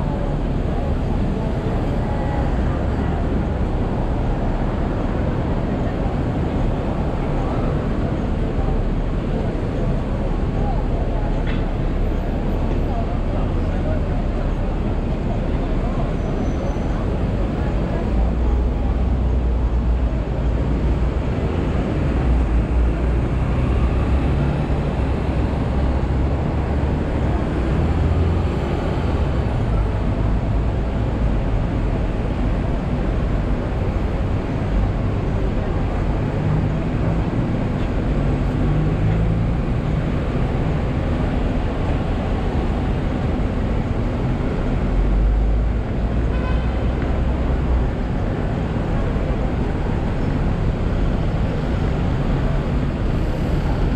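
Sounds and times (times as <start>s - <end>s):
city traffic rumble: 0.0s - 53.9s.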